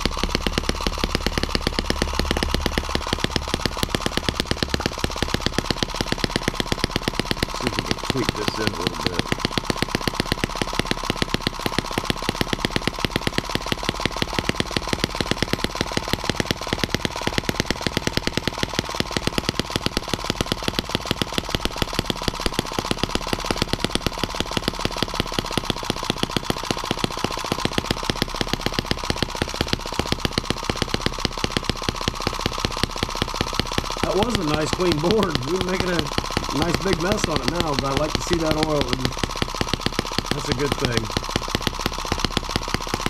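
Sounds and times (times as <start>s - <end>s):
model engine exhaust pops: 0.0s - 43.0s.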